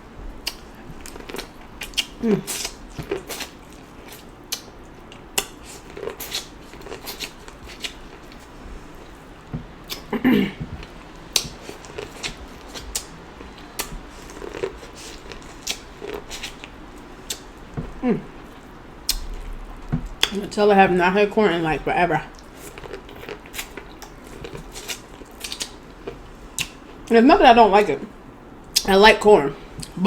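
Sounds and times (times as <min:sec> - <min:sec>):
chewing corn on the cob: 0:00.2 - 0:20.4, 0:22.3 - 0:27.1.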